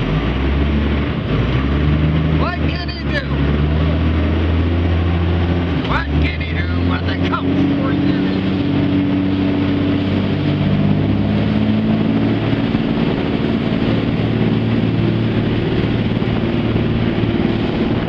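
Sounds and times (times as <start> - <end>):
boat engine running: 0.0 - 18.0
rush of water and wind: 0.0 - 18.0.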